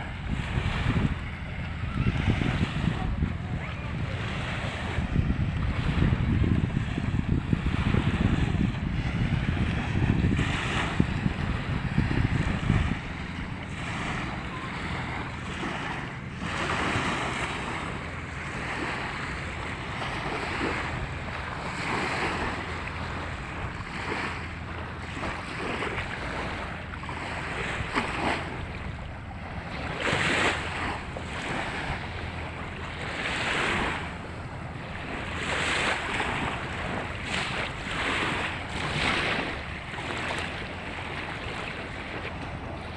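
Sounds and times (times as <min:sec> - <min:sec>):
small waves washing onto beach: 0:00.0 - 0:42.9
wind buffeting microphone: 0:00.0 - 0:42.9.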